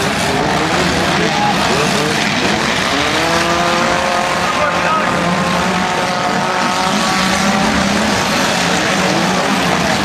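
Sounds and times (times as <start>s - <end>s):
car engines running loudly: 0.0s - 10.0s.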